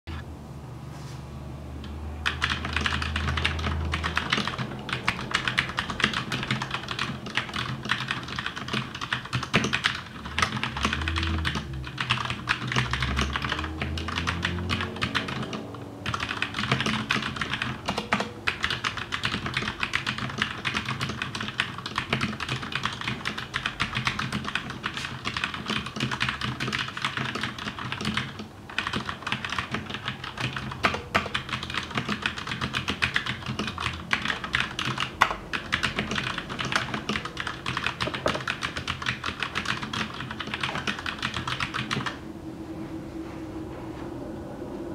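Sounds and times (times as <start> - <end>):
mechanical keyboard typing: 2.2 - 42.2.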